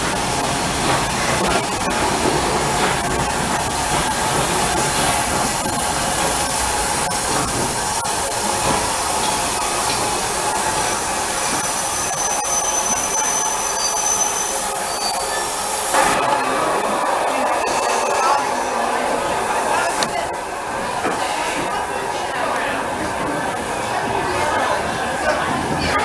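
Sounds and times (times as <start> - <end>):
steam hissing from locomotive: 0.0 - 24.2.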